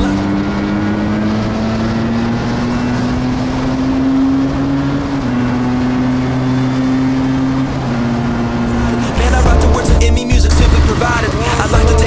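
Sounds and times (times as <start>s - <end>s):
two-stroke motorcycle engine revving: 0.0s - 12.0s.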